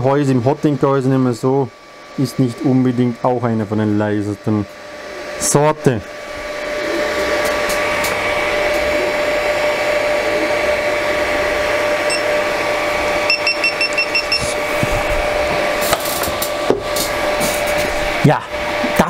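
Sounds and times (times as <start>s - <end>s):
cooling fans whirring: 0.0s - 19.0s.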